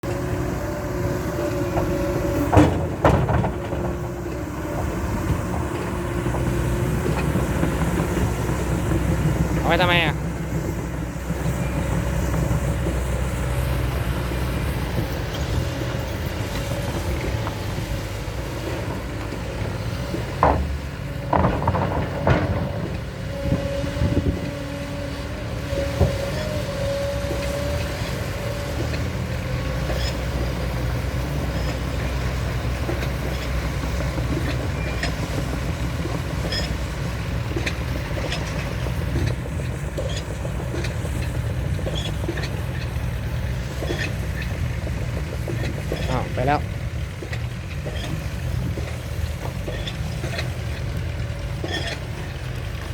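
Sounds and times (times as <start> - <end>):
excavator diesel rumble: 0.0 - 52.9.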